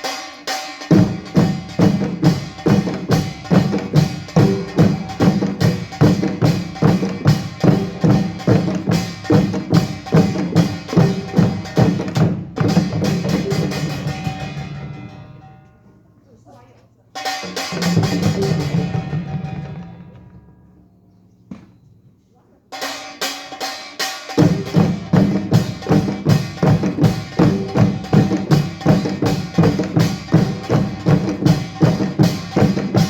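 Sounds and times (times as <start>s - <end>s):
percussion ensemble with drums and gongs: 0.0s - 21.7s, 22.7s - 33.0s.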